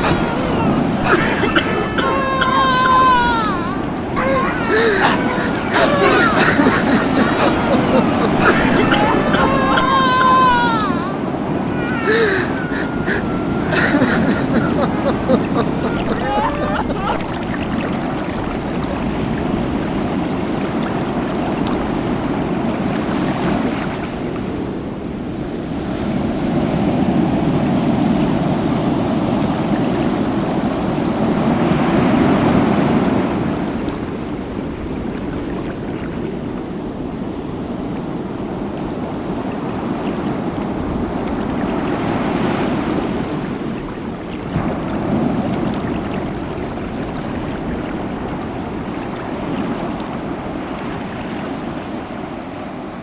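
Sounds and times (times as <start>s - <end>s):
sea waves washing: 0.0s - 53.0s.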